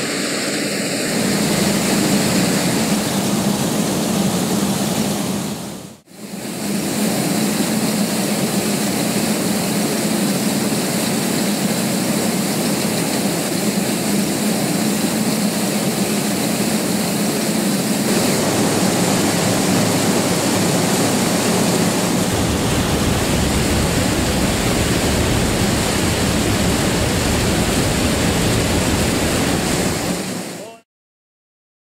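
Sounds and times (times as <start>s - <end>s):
combine harvester running: 0.0s - 30.7s.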